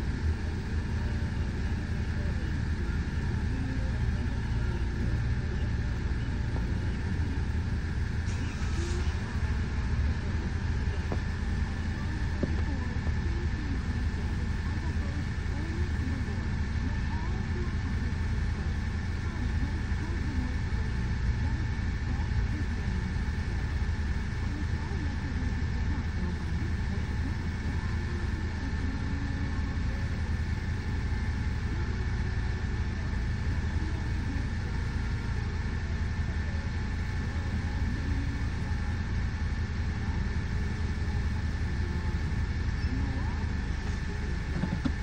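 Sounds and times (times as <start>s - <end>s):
bus engine idling: 0.0s - 45.0s.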